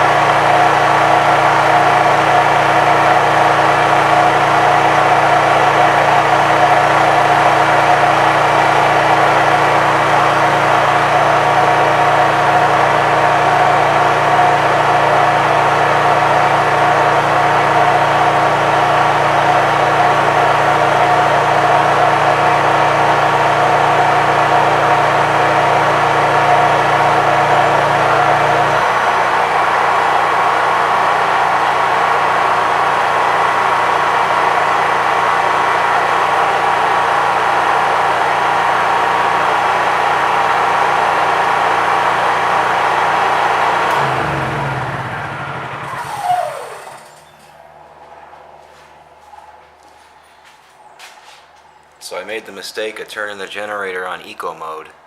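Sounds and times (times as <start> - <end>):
generator engine running: 0.0 - 55.0.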